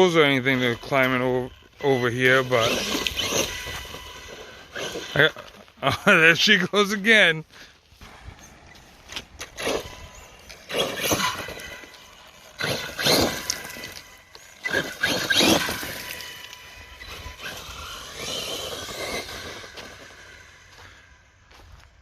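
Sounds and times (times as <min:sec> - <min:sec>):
toy car electric motor whining: 0:00.0 - 0:06.4, 0:09.4 - 0:21.5.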